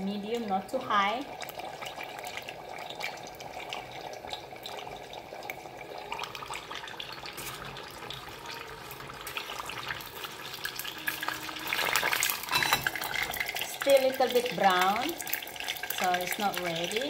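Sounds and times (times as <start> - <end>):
batter frying in oil: 0.0 - 17.0.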